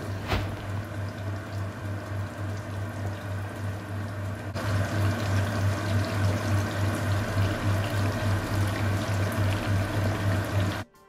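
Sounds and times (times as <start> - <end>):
chicken sizzling in hot oil: 0.1 - 10.8.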